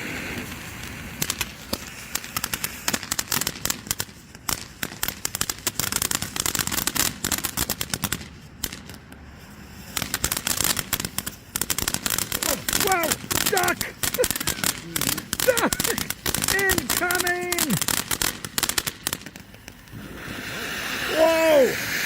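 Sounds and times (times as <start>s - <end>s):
fountain firework hissing and crackling: 0.0s - 22.0s.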